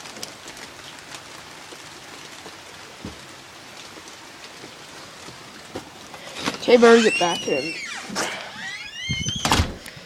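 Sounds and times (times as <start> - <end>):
heavy rain hissing: 0.0 - 10.0
raindrops tapping nearby: 0.0 - 10.0.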